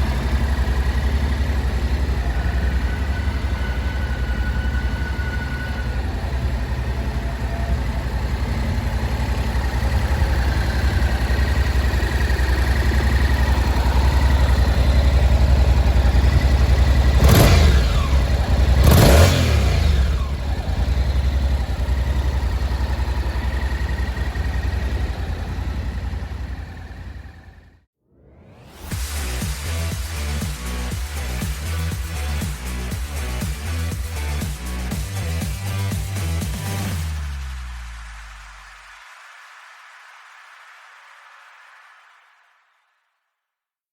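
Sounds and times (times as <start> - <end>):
engine throttle blips: 0.0 - 27.9, 28.5 - 38.6
motorcycle engine idling: 0.0 - 27.9, 29.0 - 37.5.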